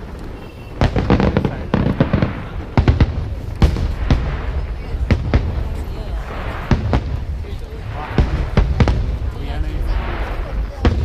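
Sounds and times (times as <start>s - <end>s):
fireworks bangs and booms: 0.0s - 11.0s
fireworks crackling: 0.0s - 11.0s.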